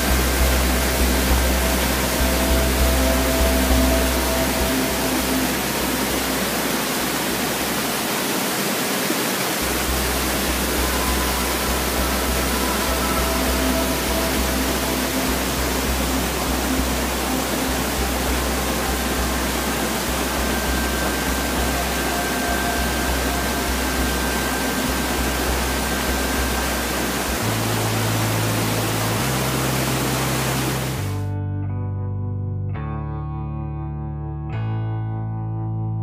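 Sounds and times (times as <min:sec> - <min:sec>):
whitewater rushing through rapids: 0:00.0 - 0:31.2.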